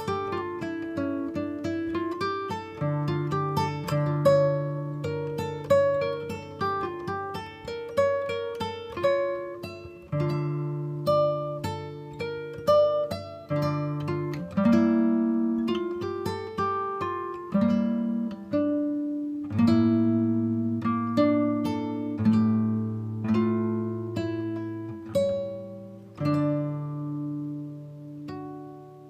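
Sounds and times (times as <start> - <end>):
plucked guitar melody: 0.0 - 29.0.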